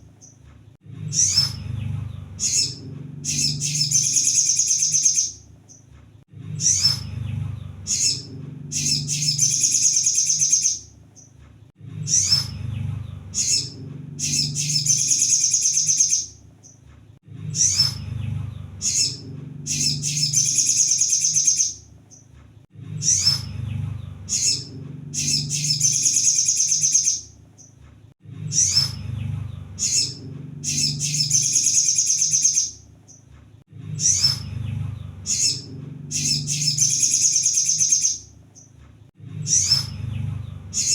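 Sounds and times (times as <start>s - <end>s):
low rumble of noise: 0.0s - 4.5s, 5.4s - 9.8s, 10.8s - 15.3s, 16.3s - 20.9s, 21.8s - 26.1s, 27.3s - 31.7s, 32.8s - 37.1s, 38.2s - 40.9s
bird twittering song: 1.0s - 11.4s, 12.0s - 16.9s, 17.5s - 22.3s, 22.9s - 27.8s, 28.4s - 33.3s, 34.0s - 38.8s, 39.5s - 40.9s.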